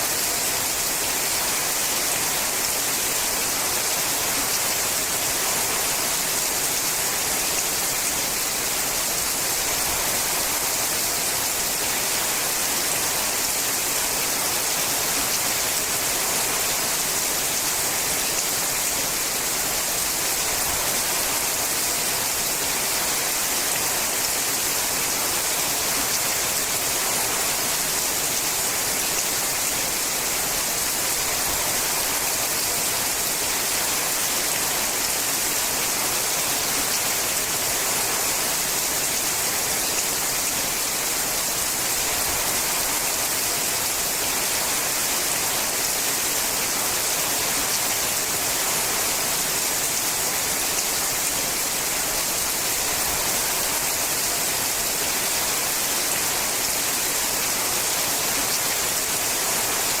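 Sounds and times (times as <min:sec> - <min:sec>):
heavy rain on a metal roof: 0:00.0 - 1:00.0.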